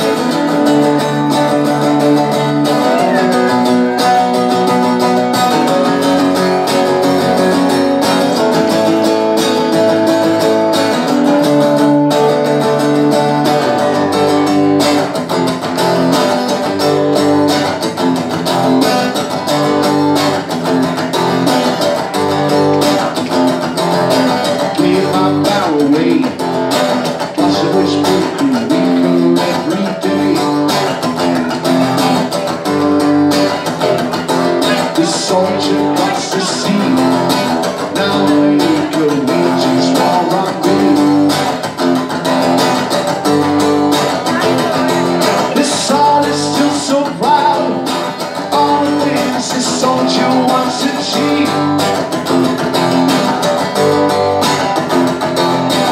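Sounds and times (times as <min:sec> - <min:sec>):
strummed guitar music: 0:00.0 - 0:55.9.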